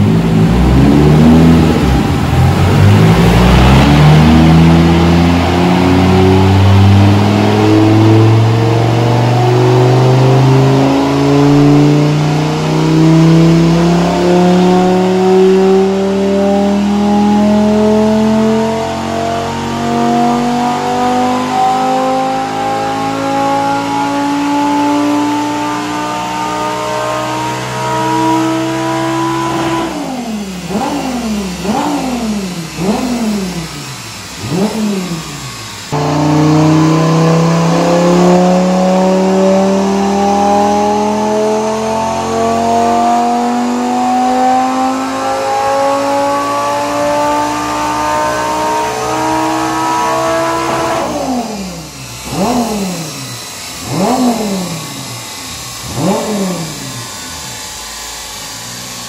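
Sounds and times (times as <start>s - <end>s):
car engine revving on a dyno: 0.0s - 59.0s.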